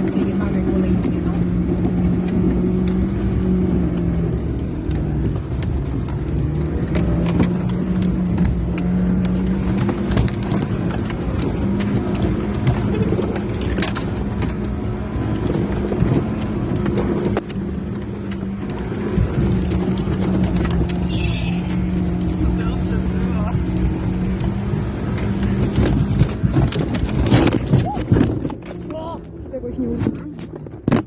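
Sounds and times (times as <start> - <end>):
vehicle knocks and rattles: 0.0 - 21.0, 21.8 - 31.0
off-road vehicle engine revving: 0.0 - 31.0.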